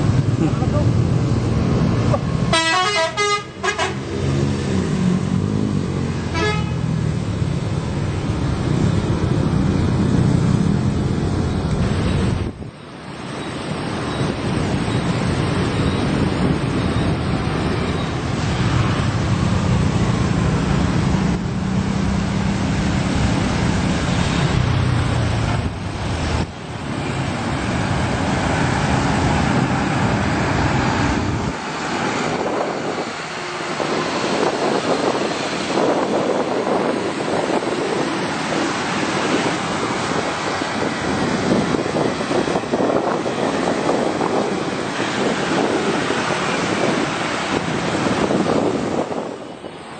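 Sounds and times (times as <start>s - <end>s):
vehicle engine and tyres rumbling: 0.0s - 49.9s
wind on microphone: 4.0s - 49.9s.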